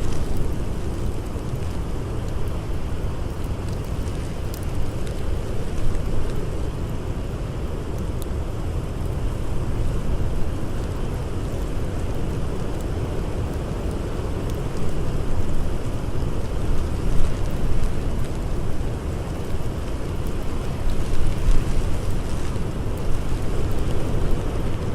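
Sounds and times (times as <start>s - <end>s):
blizzard wind blowing: 0.0s - 24.9s
faint campfire crackles: 0.0s - 24.9s.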